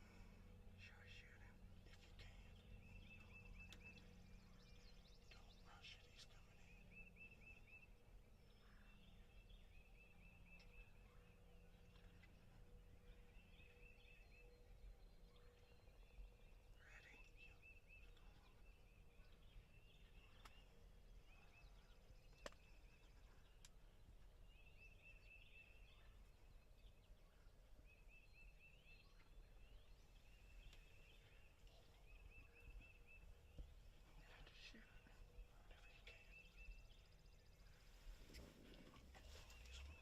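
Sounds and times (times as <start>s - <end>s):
birds trilling and chirping: 0.0s - 40.0s.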